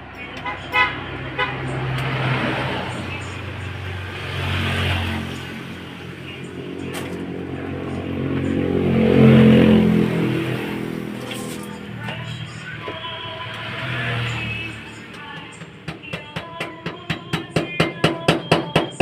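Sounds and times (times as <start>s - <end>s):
vehicle engines in street traffic: 0.0s - 19.0s.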